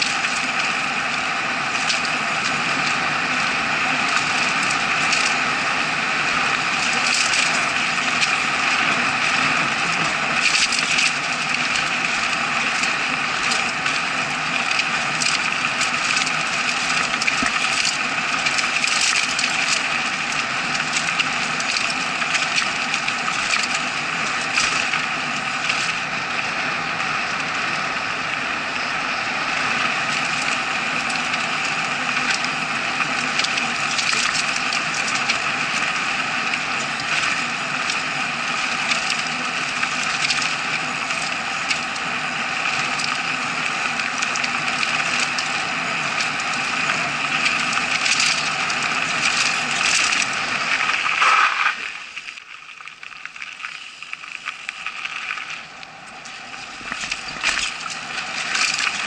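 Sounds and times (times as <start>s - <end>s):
bike rattling over bumps: 0.0s - 59.0s
wind and tyre noise: 0.0s - 59.0s.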